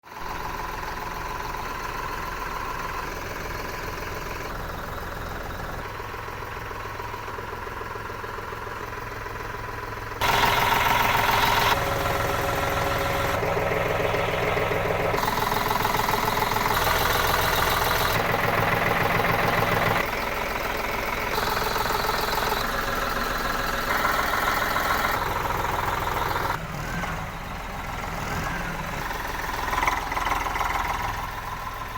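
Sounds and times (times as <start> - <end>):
tractor diesel engine idling: 0.0 - 31.9.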